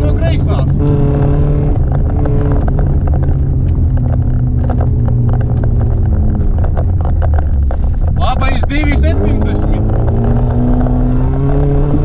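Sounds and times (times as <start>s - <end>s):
car engine revving high: 0.0s - 12.0s
gravel striking car underside: 0.0s - 12.0s.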